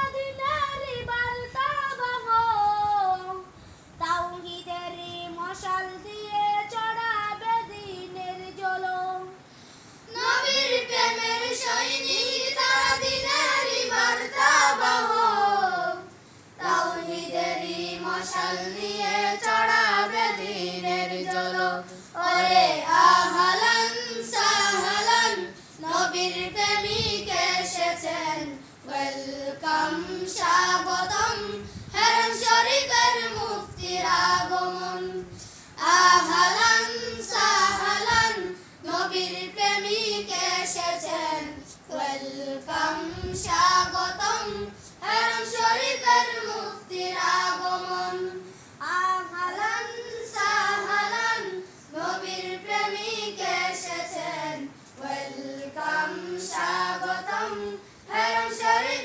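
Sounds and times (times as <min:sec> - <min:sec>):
boys singing in unison: 0:10.1 - 0:59.0.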